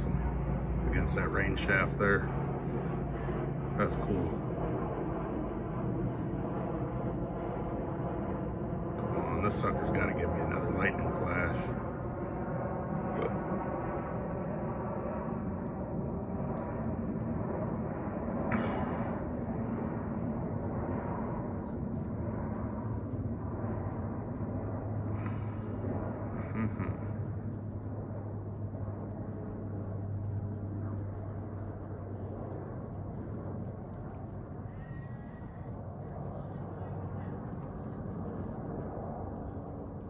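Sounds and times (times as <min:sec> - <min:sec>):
faint engine drone: 0:00.0 - 0:40.0
low urban hum: 0:00.0 - 0:40.0.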